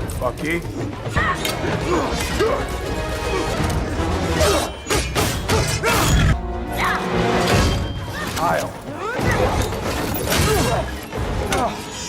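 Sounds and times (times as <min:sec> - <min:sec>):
dramatic score: 0:00.0 - 0:12.0.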